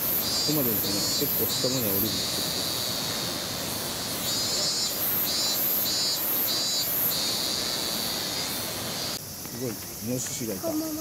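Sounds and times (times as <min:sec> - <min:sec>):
cicadas buzzing: 0:00.0 - 0:11.0
steady rushing hiss: 0:00.0 - 0:11.0.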